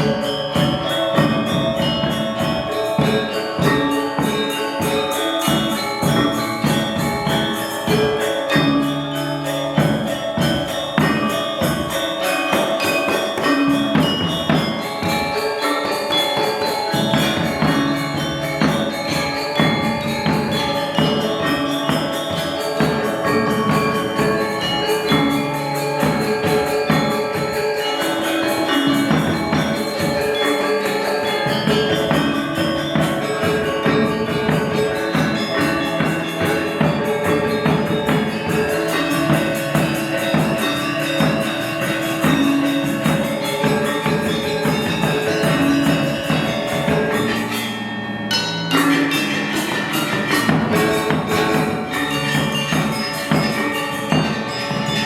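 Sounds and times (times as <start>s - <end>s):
gamelan ensemble playing: 0.0s - 55.0s.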